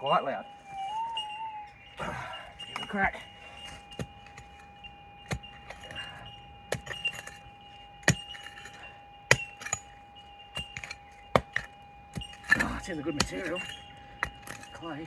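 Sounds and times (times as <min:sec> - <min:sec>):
faint steady tone: 0:00.0 - 0:15.0
pick striking stony ground: 0:02.0 - 0:15.0.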